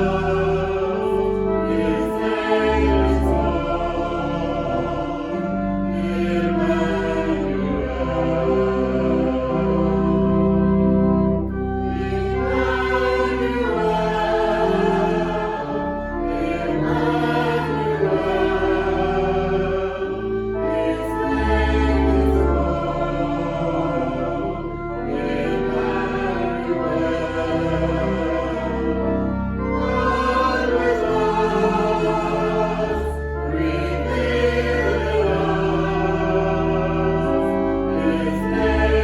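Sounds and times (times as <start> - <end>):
choir singing held chords: 0.0 - 39.0
low sustained accompaniment: 0.0 - 39.0.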